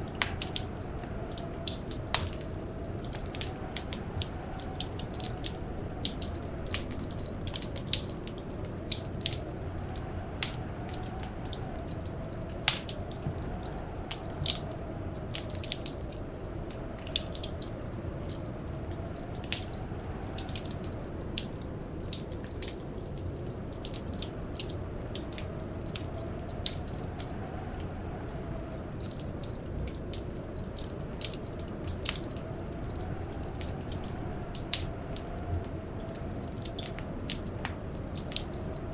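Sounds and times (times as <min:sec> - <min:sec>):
howling blizzard wind: 0:00.0 - 0:38.9
wood fire crackling: 0:00.0 - 0:38.9.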